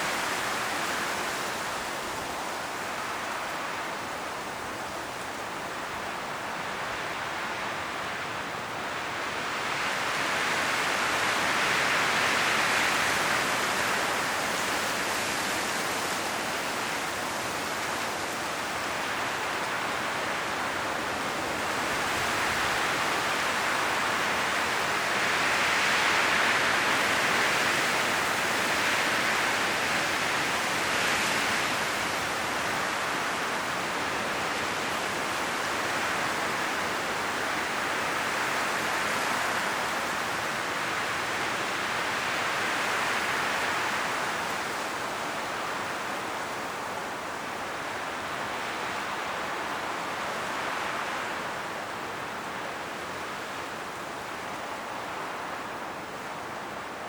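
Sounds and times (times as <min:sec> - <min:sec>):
leaves rustling: 0:00.0 - 0:57.0
wind blowing through forest: 0:00.0 - 0:57.0.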